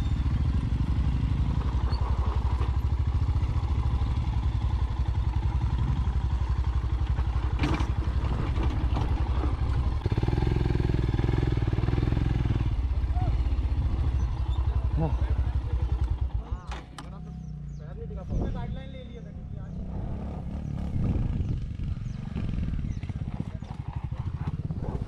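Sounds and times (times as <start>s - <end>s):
motorcycle engine running at low revs: 0.0s - 25.0s.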